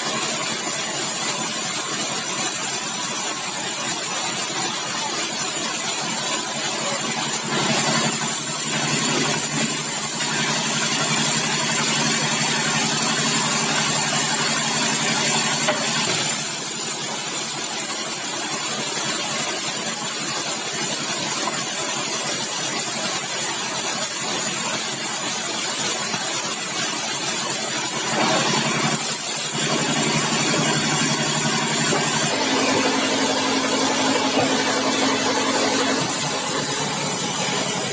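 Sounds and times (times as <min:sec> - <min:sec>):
sawmill machinery running: 0:00.0 - 0:37.9.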